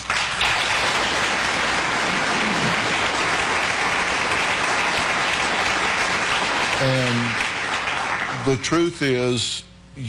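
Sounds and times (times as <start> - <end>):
audience applause: 0.0 - 8.9.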